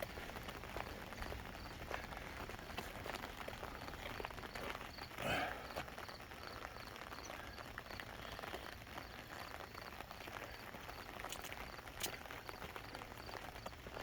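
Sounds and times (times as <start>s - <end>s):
footsteps walking: 0.0s - 14.0s
light rain pattering: 0.0s - 14.0s.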